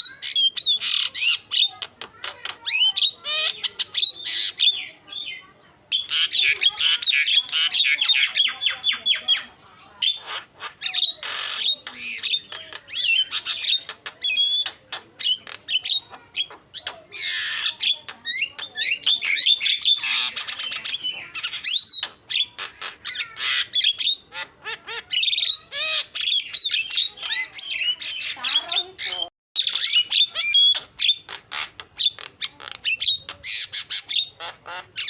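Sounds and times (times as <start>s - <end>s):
myna bird chattering: 0.0s - 35.0s.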